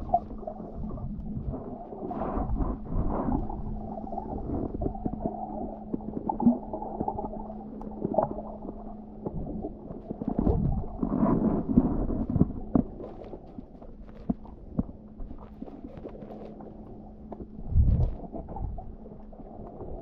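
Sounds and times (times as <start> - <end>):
churning water underwater: 0.0 - 20.0
steady low hum: 0.0 - 20.0.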